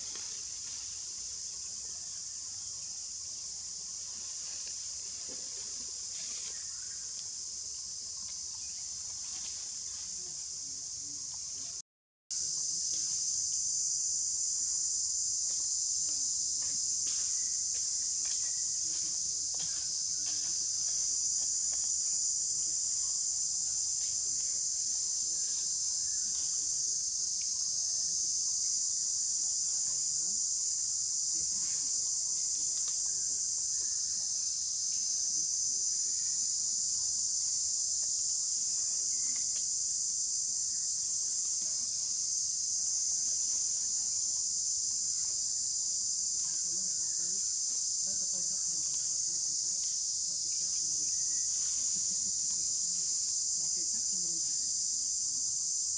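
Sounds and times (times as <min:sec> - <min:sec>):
insects shrilling: 0:00.0 - 0:55.9.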